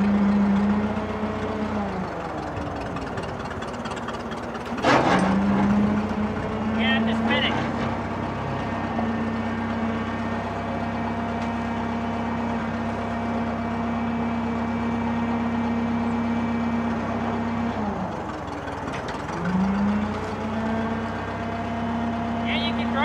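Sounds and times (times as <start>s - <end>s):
crane engine under hydraulic load: 0.0s - 6.7s, 7.6s - 22.4s.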